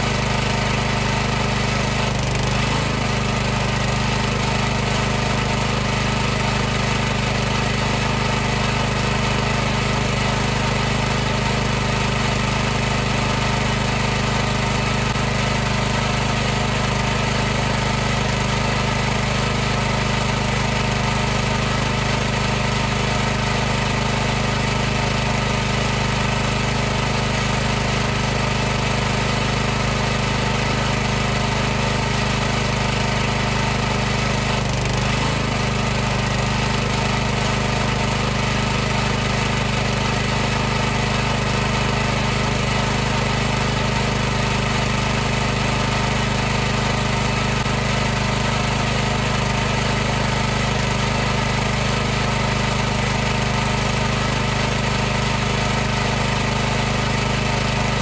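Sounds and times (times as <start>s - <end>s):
pressure washer running: 0.0s - 58.0s.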